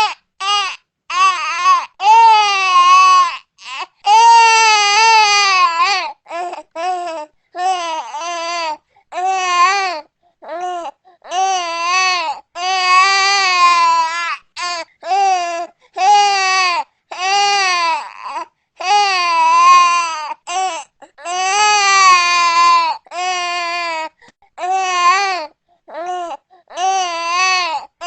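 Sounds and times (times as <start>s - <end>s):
newborn baby crying: 0.0s - 28.0s.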